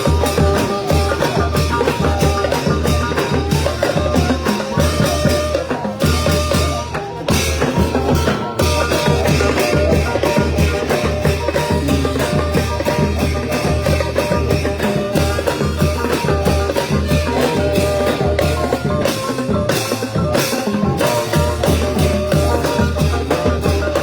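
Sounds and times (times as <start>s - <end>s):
steady drum beat: 0.0s - 24.0s.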